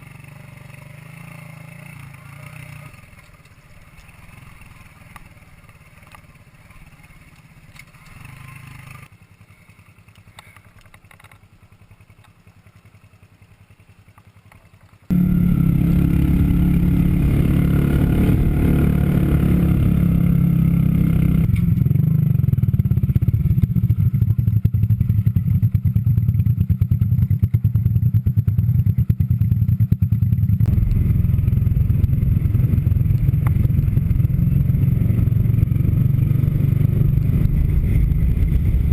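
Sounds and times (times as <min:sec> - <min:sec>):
two-stroke motorcycle engine running: 0:00.0 - 0:38.9.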